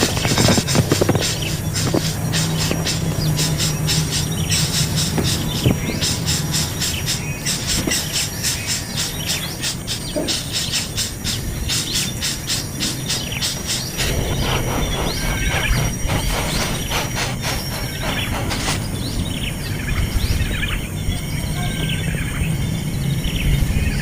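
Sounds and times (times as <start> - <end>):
nestlings chirping: 0.0 - 24.0.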